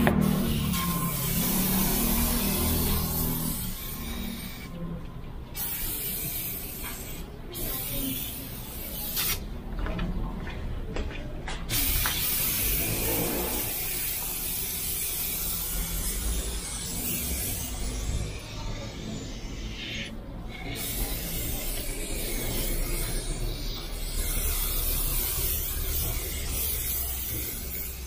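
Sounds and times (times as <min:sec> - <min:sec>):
aerosol can spraying: 0:00.0 - 0:04.7, 0:05.6 - 0:09.5, 0:11.7 - 0:28.0.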